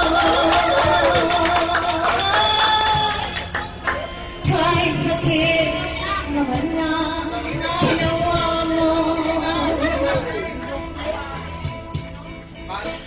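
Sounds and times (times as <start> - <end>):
instrumental accompaniment: 0.0 - 13.0.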